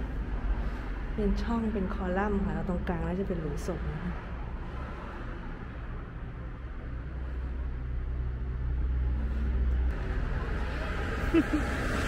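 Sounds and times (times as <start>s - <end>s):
faint engine hum: 0.0s - 12.0s
road traffic rumble: 0.0s - 12.0s.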